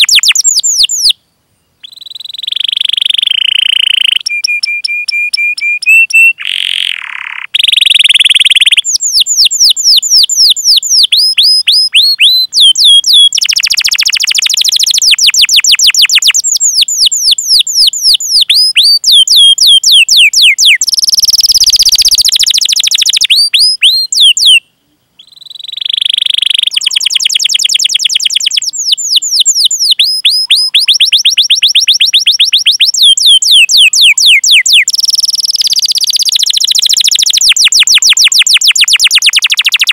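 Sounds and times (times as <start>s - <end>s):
canary singing: 0.0s - 1.2s, 1.8s - 39.9s.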